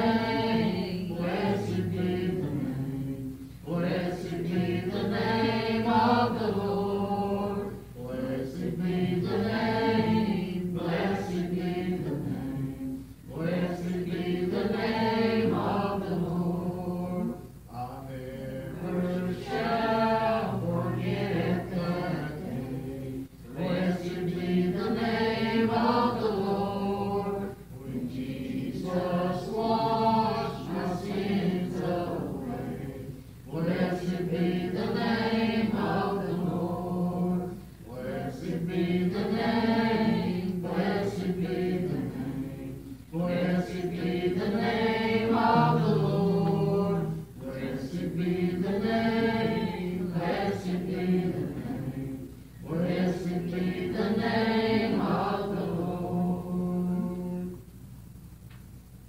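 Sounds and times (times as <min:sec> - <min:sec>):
voices singing slow chant: 0:00.0 - 0:58.7.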